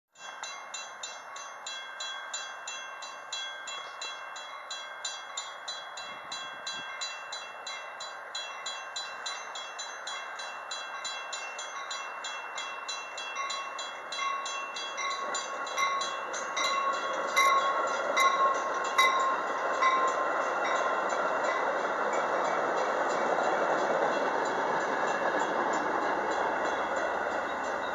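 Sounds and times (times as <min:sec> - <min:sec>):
railroad crossing bell ringing: 0:00.2 - 0:27.9
sharp clicks of train wheels: 0:00.2 - 0:27.9
train approaching: 0:00.2 - 0:27.9.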